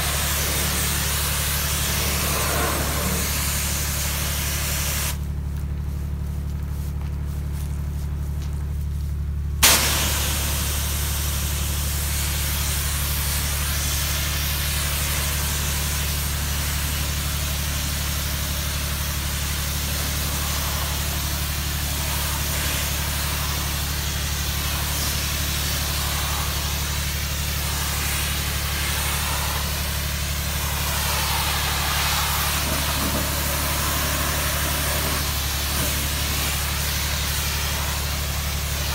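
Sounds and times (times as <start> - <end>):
spray hissing on siding: 0.0 - 5.2, 9.6 - 38.9
pressure washer engine running: 0.0 - 38.9.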